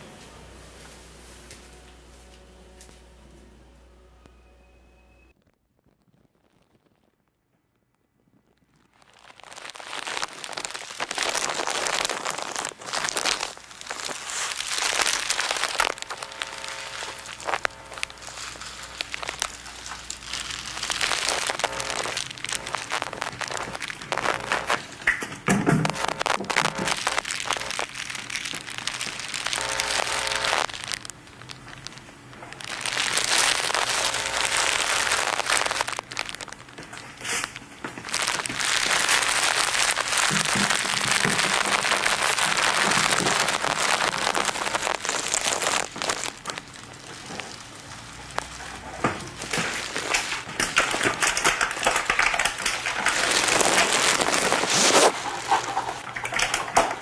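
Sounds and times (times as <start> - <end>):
plastic and paper packaging crumpling: 5.4 - 57.0.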